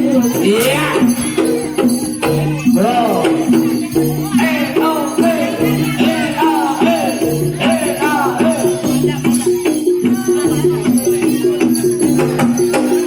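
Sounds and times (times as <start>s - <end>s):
jingling bells: 0.0s - 13.0s.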